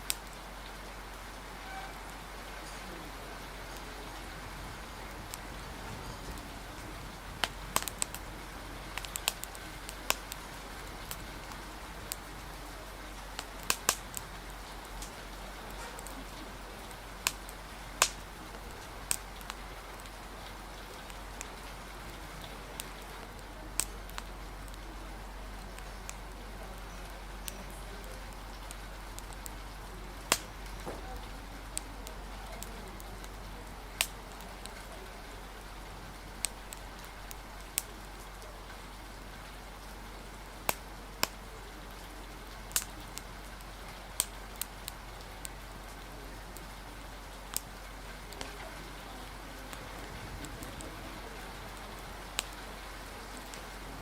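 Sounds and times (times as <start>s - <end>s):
rain hiss: 0.0s - 54.0s
wood fire popping: 0.0s - 54.0s.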